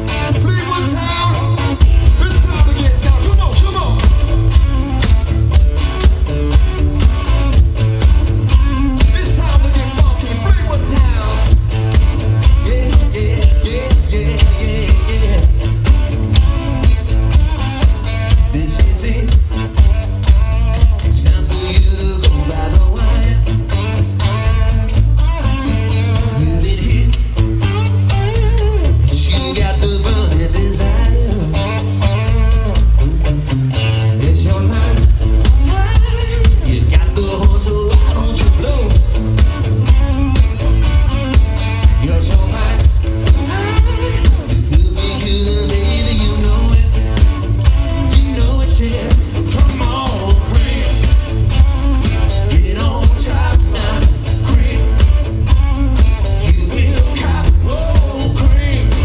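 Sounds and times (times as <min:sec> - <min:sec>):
drums: 0:00.0 - 0:59.0
heavy bass guitar: 0:00.0 - 0:59.0
live band dance groove: 0:00.0 - 0:59.0.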